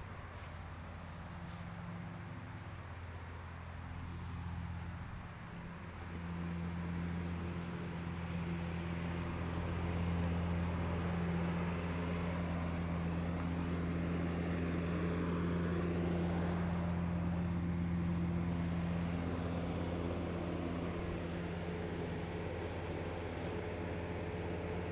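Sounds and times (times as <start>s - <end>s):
low machine hum: 0.0s - 24.9s.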